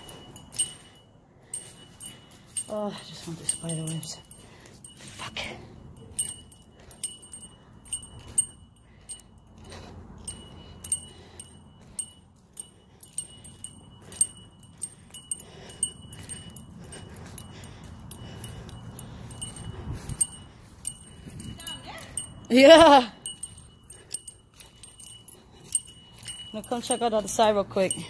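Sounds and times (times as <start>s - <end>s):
metallic jingling: 0.0s - 28.0s.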